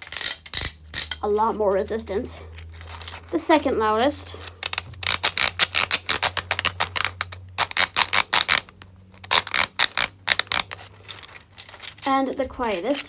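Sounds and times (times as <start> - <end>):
fidget toy wheel clicking: 0.0 - 13.0.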